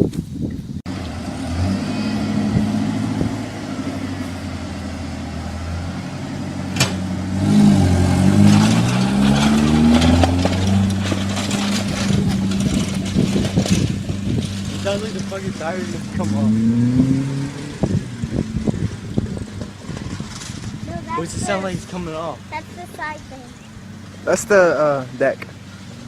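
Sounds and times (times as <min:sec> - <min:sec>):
towed lawn mower rattling: 0:00.9 - 0:16.6, 0:17.6 - 0:26.0
vehicle engine revving: 0:00.9 - 0:26.0.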